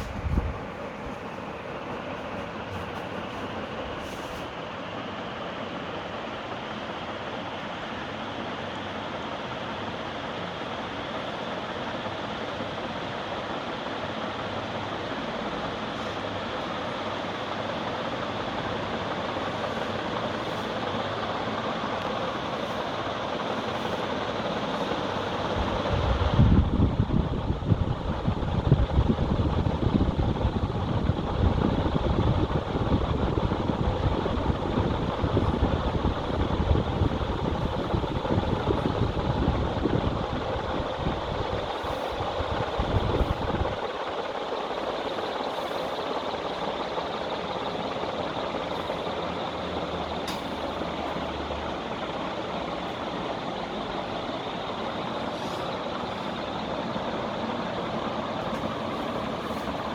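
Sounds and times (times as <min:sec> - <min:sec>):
fan wind buffeting microphone: 0:00.0 - 0:59.9.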